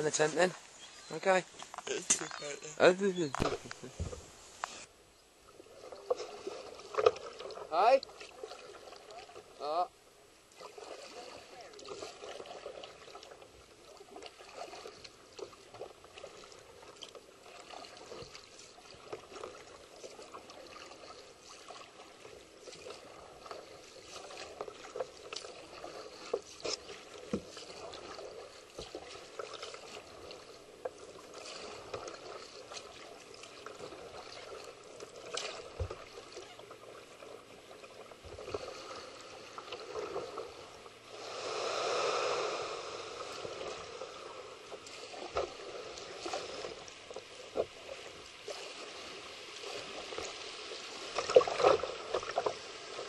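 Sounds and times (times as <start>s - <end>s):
paddle splashing in water: 5.5s - 9.6s, 10.5s - 53.0s.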